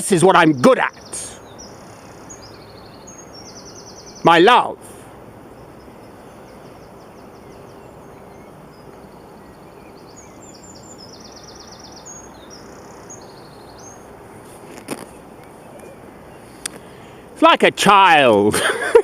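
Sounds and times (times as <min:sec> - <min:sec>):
outdoor hiss: 0:00.0 - 0:19.0
small birds trilling: 0:00.0 - 0:19.0.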